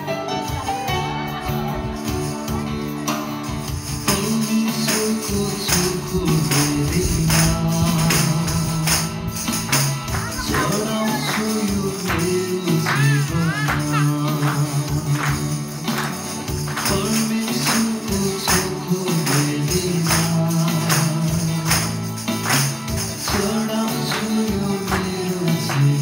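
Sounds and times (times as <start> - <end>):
music with singing: 0.0 - 26.0
tambourines struck and jingled: 0.3 - 26.0.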